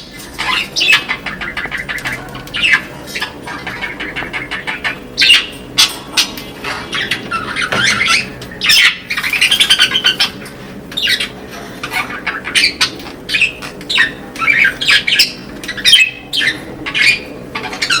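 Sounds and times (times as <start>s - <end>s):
budgerigars squawking and chirping: 0.0s - 18.0s.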